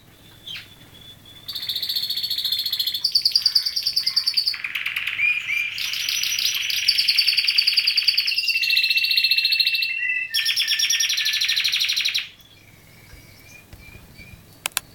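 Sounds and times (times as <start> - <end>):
canary singing trills: 0.0 - 14.9.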